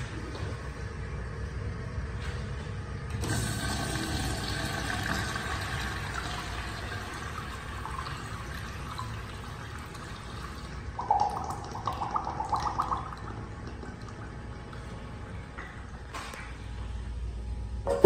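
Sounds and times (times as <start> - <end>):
urinal flushing: 0.0 - 16.1.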